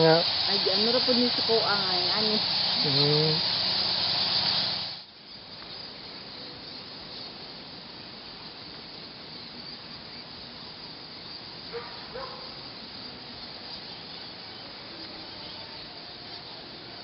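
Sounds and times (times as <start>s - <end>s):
fruit bat colony din: 0.0s - 17.0s.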